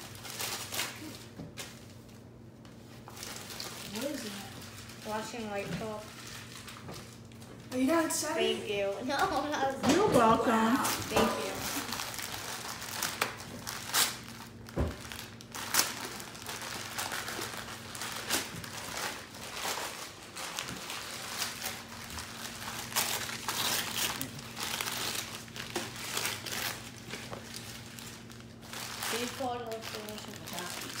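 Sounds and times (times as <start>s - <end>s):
wrapping paper tearing and crinkling: 0.0s - 9.5s, 10.4s - 31.0s.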